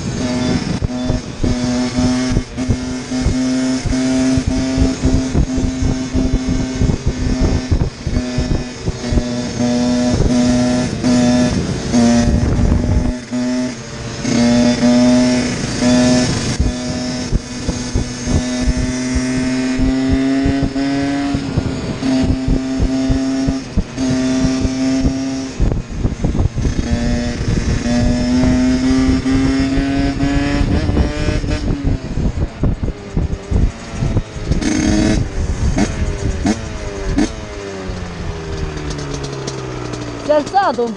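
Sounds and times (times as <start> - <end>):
two-stroke dirt bike engine: 0.0 - 40.9
wind on microphone: 0.0 - 40.9.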